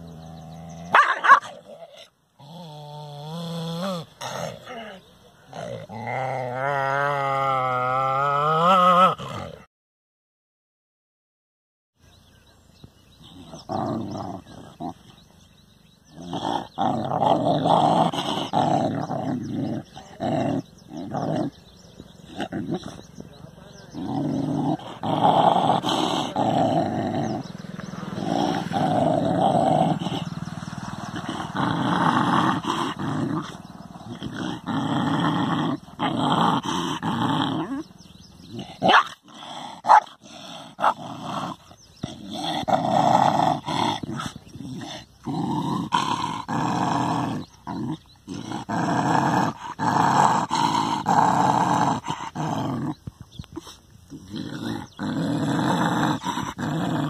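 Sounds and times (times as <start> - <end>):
dog growling: 0.0 - 9.7, 13.1 - 57.0.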